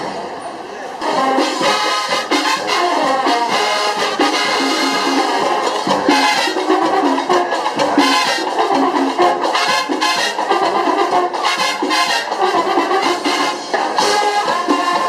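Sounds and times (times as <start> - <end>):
trumpets and trombones: 1.0 - 15.0.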